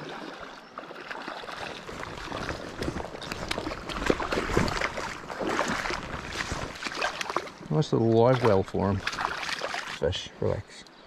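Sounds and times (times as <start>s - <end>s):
fish splashing in water: 0.0s - 7.6s, 8.2s - 10.0s.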